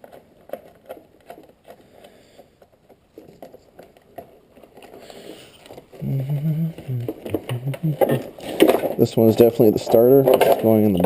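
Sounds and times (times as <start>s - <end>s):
faint clicks and rustling: 0.0s - 11.0s.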